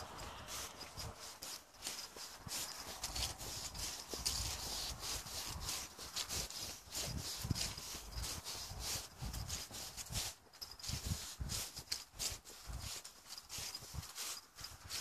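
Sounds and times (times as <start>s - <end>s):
footsteps on grass and dry leaves: 0.0s - 15.0s.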